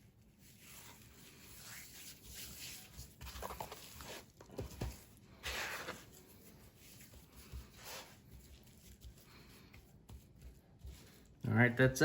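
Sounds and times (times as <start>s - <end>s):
rustling scrape: 0.0s - 11.4s.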